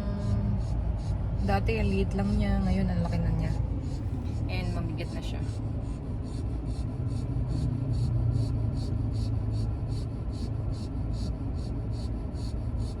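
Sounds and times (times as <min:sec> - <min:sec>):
car cabin hum: 0:00.0 - 0:13.0
light regular ticking: 0:00.0 - 0:13.0.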